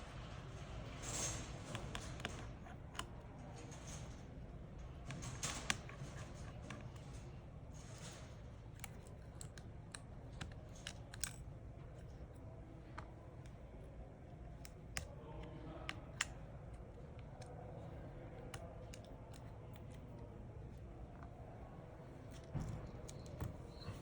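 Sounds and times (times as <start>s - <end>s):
low steady hum: 0.0s - 24.0s
light clicks and taps: 1.0s - 24.0s.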